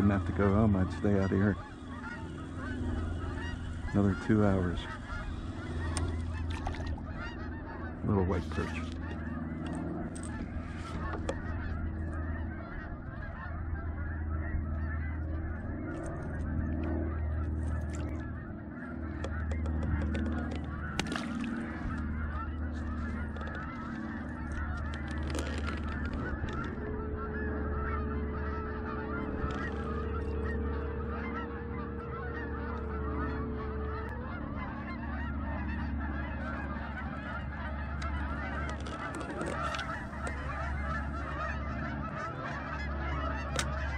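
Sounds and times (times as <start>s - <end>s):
geese honking: 0.0s - 43.9s
motor humming: 0.0s - 43.9s.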